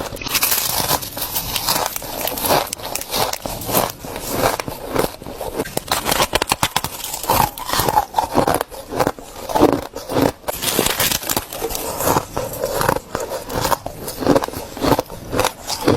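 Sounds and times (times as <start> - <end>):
ice being chewed: 0.0 - 15.9.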